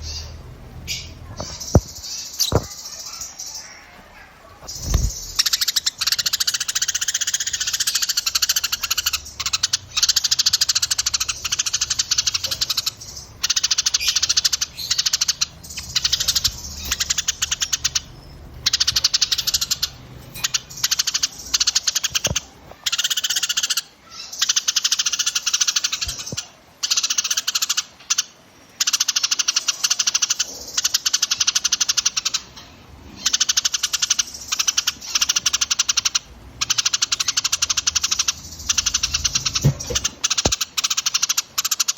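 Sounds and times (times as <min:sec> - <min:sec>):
songbirds trilling: 0:00.0 - 0:41.9.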